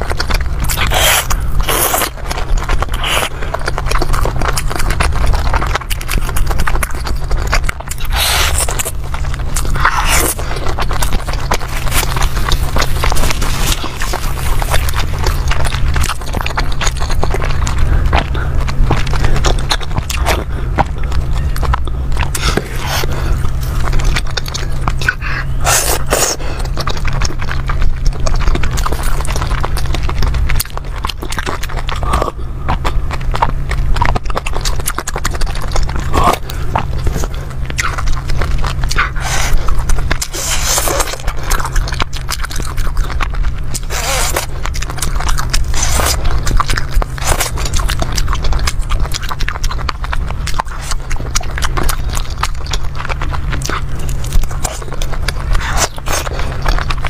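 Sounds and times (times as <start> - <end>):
biting: 0.0 - 57.0
wet chewing: 0.0 - 57.0.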